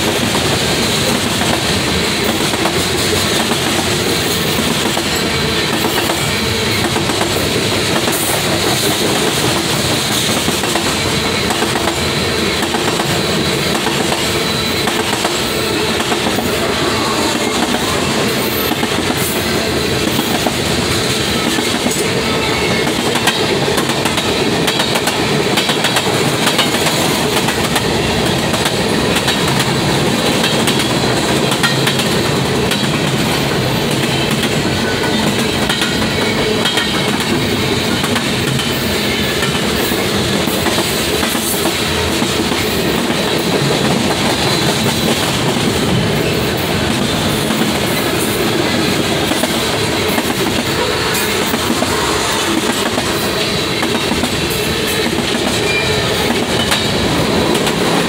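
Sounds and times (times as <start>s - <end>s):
train wheels running on rails: 0.0s - 58.0s.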